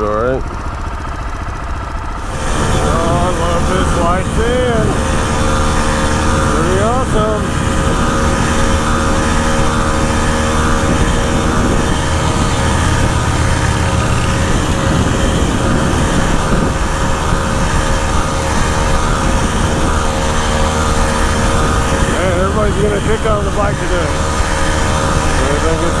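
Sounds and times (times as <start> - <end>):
small motorbike engine running: 0.0 - 26.0
wind and road noise: 0.0 - 26.0.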